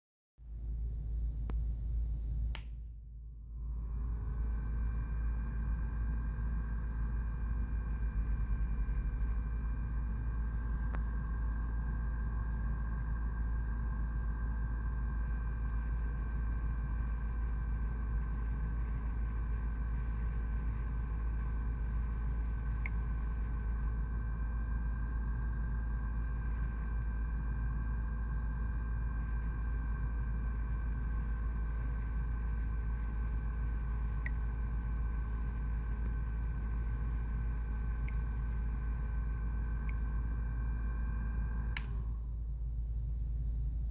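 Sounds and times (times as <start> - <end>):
faint high whine: 0.4 - 43.9
humidifier running: 3.6 - 43.9.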